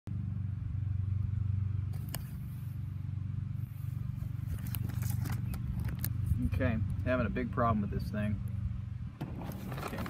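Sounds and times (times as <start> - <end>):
low mechanical hum: 0.1 - 10.0.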